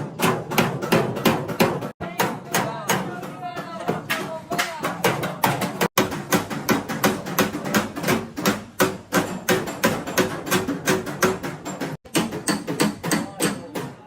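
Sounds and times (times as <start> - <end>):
hammer on sheet metal: 0.0 - 14.0.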